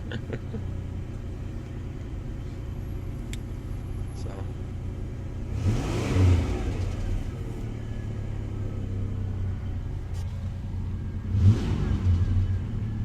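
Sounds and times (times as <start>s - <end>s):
engine idling and revving: 0.0s - 13.0s.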